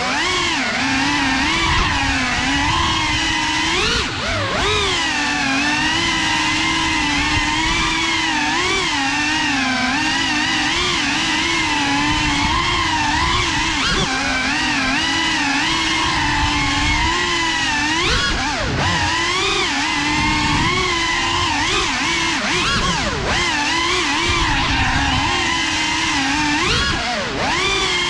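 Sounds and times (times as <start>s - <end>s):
drone motors and propellers whining: 0.0s - 28.0s.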